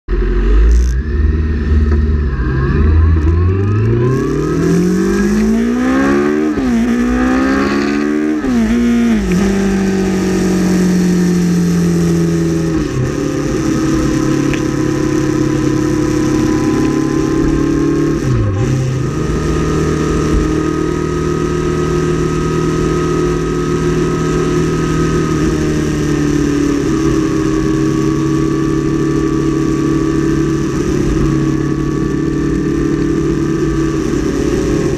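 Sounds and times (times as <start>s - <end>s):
motorcycle engine accelerating: 0.1s - 34.9s
wind and road noise: 0.1s - 34.9s.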